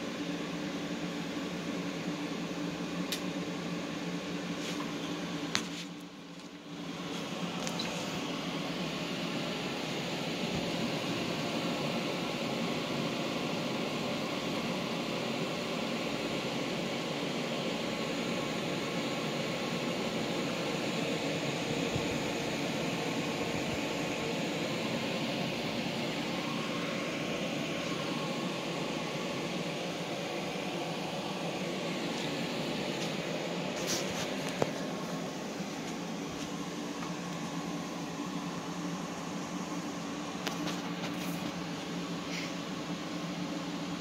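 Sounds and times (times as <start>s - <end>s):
steady rushing hiss: 6.8s - 43.6s.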